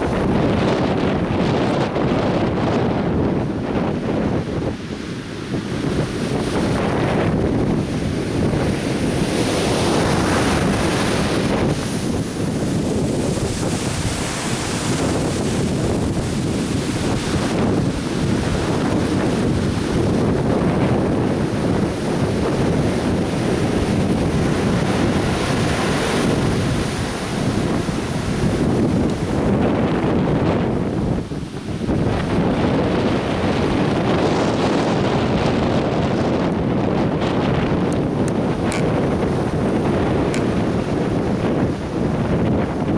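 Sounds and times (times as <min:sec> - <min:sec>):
ocean surf on beach: 0:00.0 - 0:42.9
wind buffeting microphone: 0:00.0 - 0:42.9.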